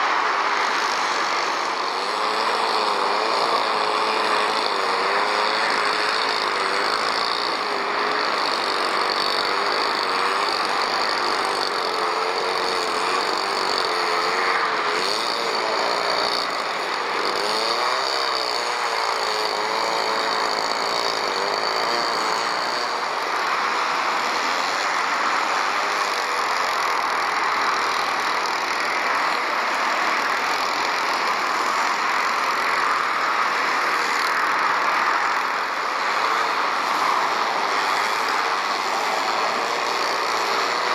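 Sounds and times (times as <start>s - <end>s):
road traffic: 0.0s - 40.9s.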